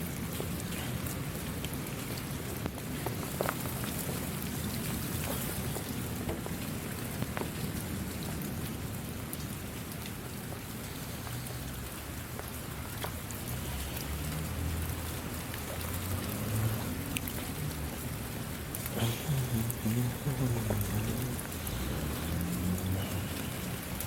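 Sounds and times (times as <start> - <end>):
raindrops clicking close by: 0.0 - 24.0
steady rain: 0.0 - 24.0.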